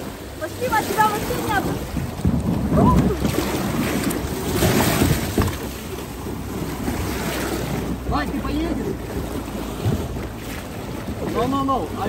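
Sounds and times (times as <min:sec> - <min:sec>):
water rushing and splashing: 0:00.0 - 0:12.0
wind rumbling on microphone: 0:00.0 - 0:12.0.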